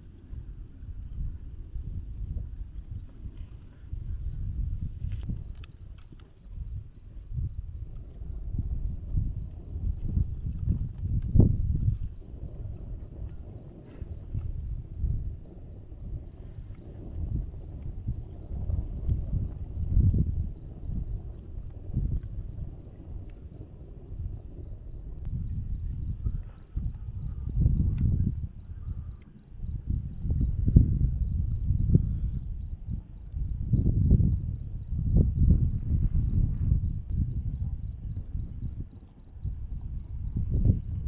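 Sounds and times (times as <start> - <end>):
cricket chirping: 4.5 - 41.0.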